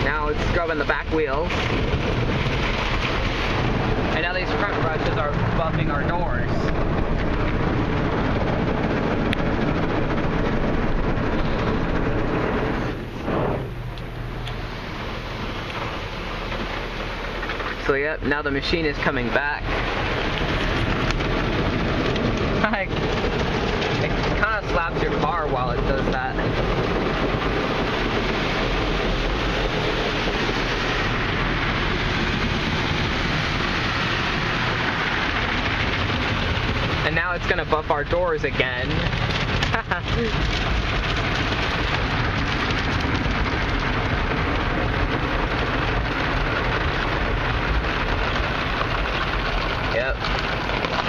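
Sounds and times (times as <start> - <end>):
car wash brushes and water spray: 0.0 - 51.0.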